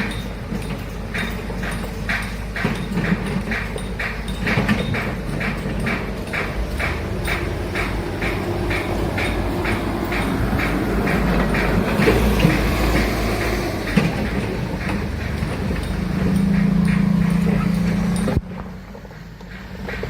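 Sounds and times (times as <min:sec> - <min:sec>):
engine hum: 0:00.0 - 0:20.0
heavy machinery running: 0:00.0 - 0:20.0
regular clacking: 0:00.0 - 0:20.0.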